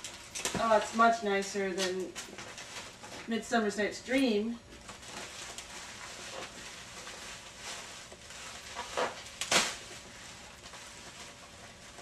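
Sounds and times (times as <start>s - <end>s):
soft rustling of packaging: 0.0s - 12.0s.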